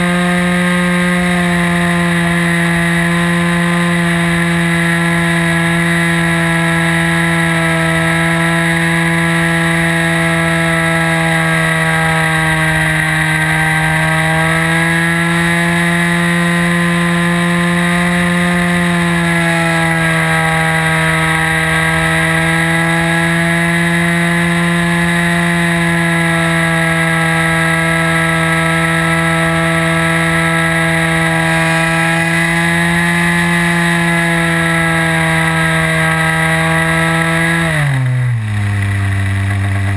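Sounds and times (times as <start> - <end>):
model aeroplane engine buzzing: 0.0 - 39.9.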